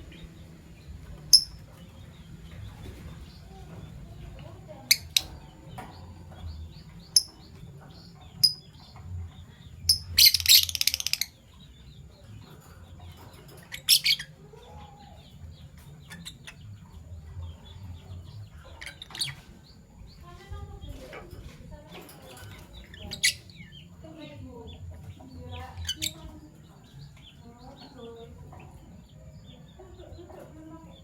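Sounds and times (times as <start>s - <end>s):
rapid bird chattering: 0.0s - 11.6s, 15.7s - 31.0s
lovebirds chirping: 0.0s - 31.0s.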